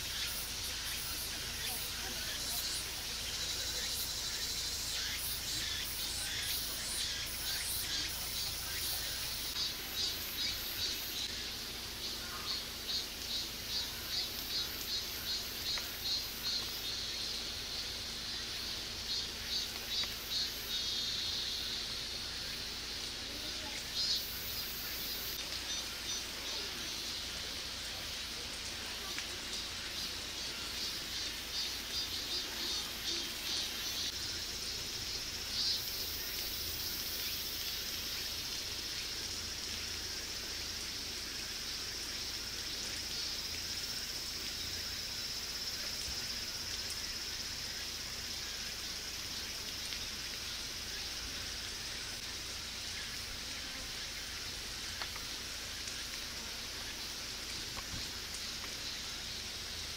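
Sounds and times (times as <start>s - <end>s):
insects droning: 0.0s - 59.9s
rapid insect chirps: 0.0s - 59.9s.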